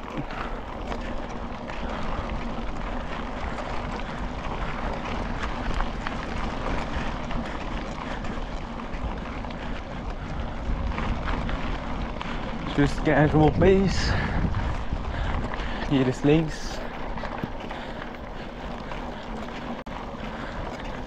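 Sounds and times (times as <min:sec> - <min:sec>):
bike ticks and rattles: 0:00.0 - 0:21.0
bike tyres crunching on gravel: 0:00.0 - 0:21.0
wind on microphone: 0:01.9 - 0:19.8.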